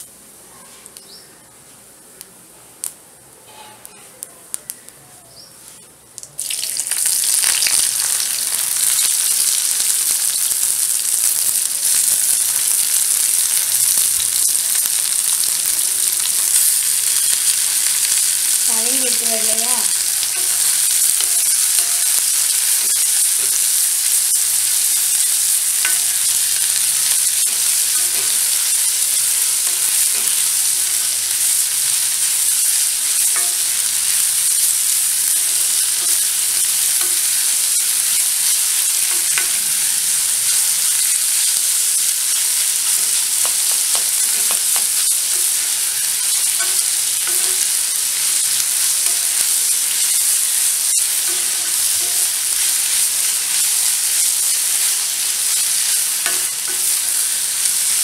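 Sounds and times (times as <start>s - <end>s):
onions sizzling in a pan: 0.0s - 58.0s.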